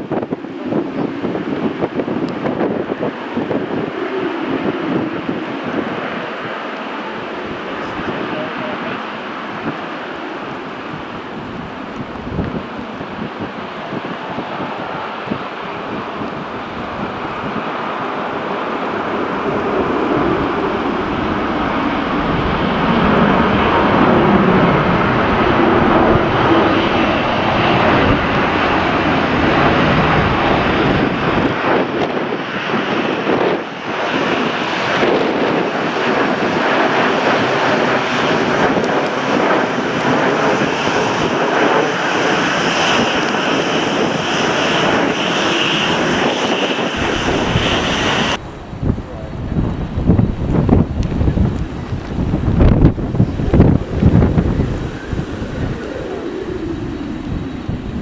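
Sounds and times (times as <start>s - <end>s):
jet airliner engines roaring: 0.0s - 58.0s.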